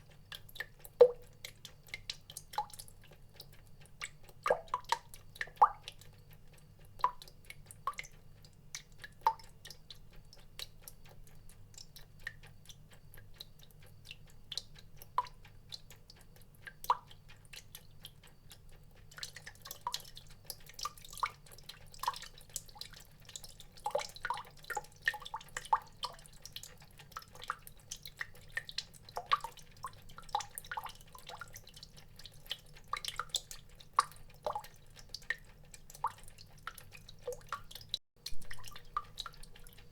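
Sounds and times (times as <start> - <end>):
water drops dripping: 0.0 - 39.9.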